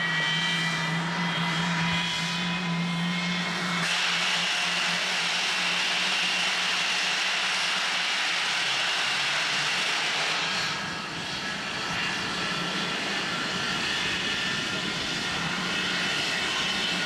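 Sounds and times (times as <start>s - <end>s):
jet engines whistling: 0.0s - 17.0s.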